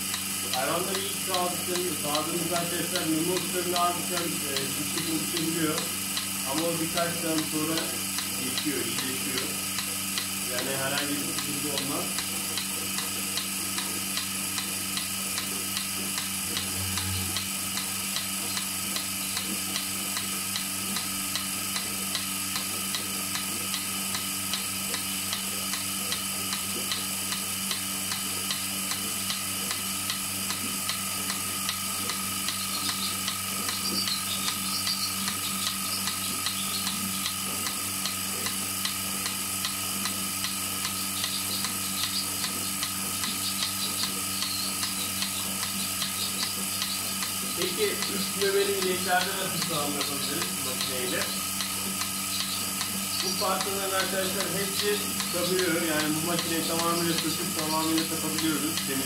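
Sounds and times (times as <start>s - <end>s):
pulsator ticking: 0.0s - 59.0s
vacuum pump humming: 0.0s - 59.0s.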